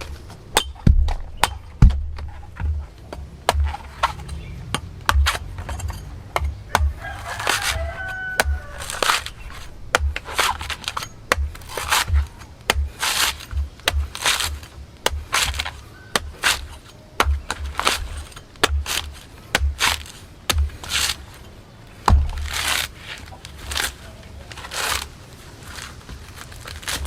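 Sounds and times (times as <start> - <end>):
blade chopping coconut: 0.5 - 21.2, 22.0 - 24.0.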